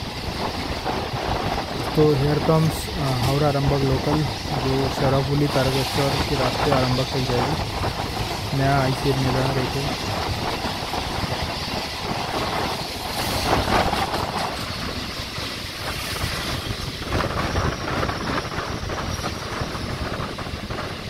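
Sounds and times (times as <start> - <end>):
train running alongside: 0.0 - 21.0
train wheels rumbling on rails: 0.0 - 21.0
wind rushing past: 0.0 - 21.0.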